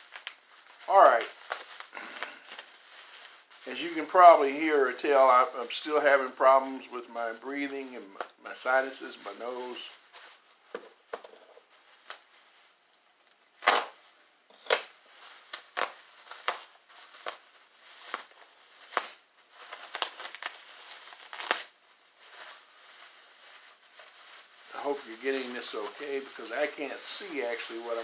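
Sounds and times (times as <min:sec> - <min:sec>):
plastic packaging crinkling: 0:00.0 - 0:28.0.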